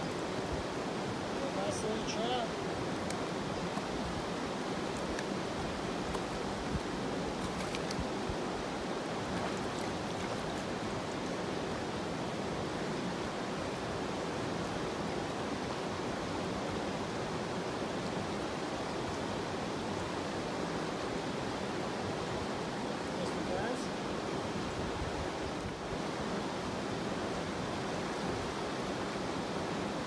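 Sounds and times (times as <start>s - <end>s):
creek rushing over rocks: 0.0s - 30.0s.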